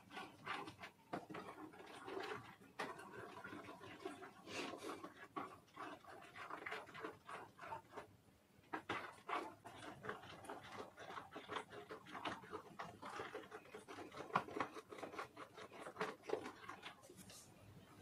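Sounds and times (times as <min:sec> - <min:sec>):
spatula squishing slime: 0:00.0 - 0:17.5.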